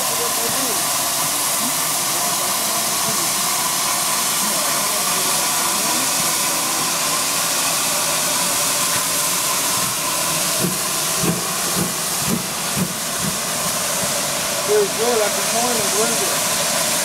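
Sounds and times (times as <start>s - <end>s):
steam hissing from locomotive: 0.0s - 17.0s.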